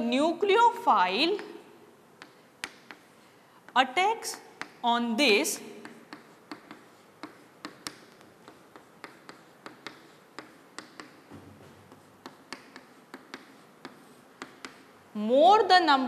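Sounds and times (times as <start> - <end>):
chalk tapping and scratching: 2.2 - 15.0.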